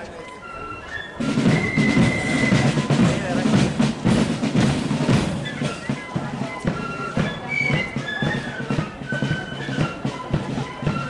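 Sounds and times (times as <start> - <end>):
thin flute melody: 0.0 - 11.0
heavy drumming: 1.2 - 11.0.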